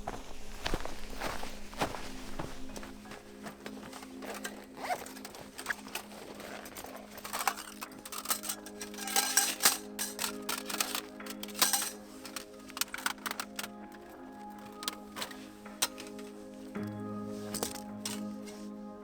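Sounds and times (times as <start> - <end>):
gear rustling and clicking: 0.0 - 18.8
soft background music: 0.0 - 19.0.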